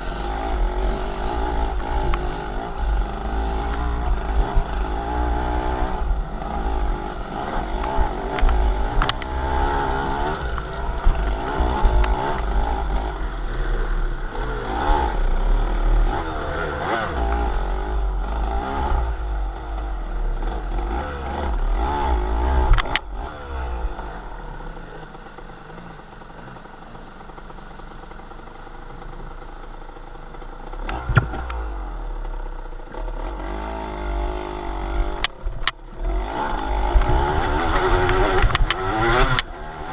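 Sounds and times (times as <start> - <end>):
low rumble of road noise: 0.0 - 39.9
vehicle engine running: 0.0 - 39.9.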